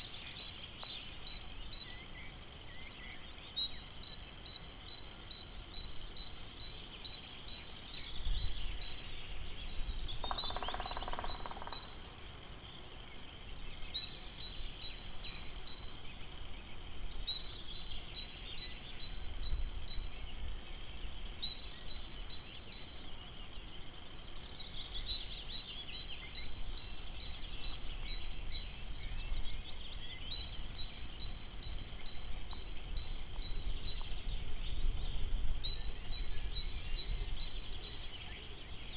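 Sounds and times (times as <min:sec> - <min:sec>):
wind rumble on microphone: 0:07.5 - 0:38.9.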